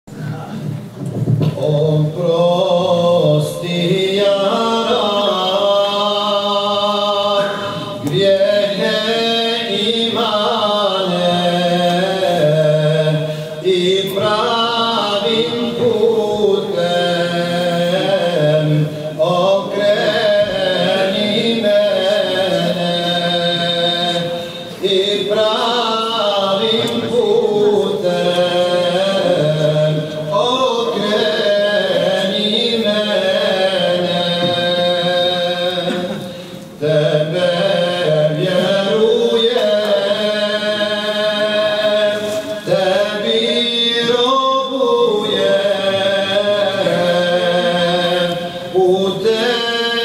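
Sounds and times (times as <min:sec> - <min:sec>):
man singing a devotional hymn: 0:01.4 - 0:50.0.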